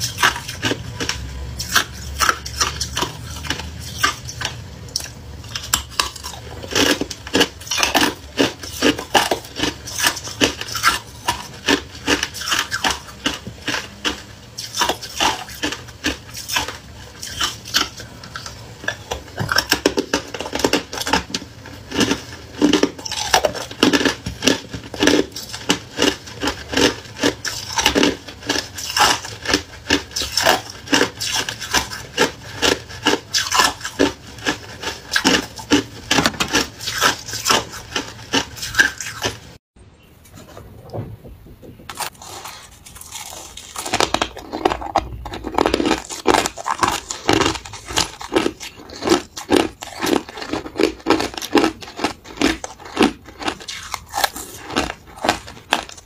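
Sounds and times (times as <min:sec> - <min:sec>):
ice being chewed: 0:00.0 - 0:39.6, 0:41.9 - 0:56.0.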